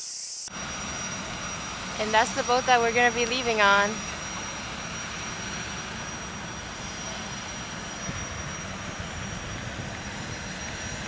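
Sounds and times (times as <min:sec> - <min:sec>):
high engine whine: 0:00.0 - 0:11.0
ferry engines rumbling: 0:00.5 - 0:11.0.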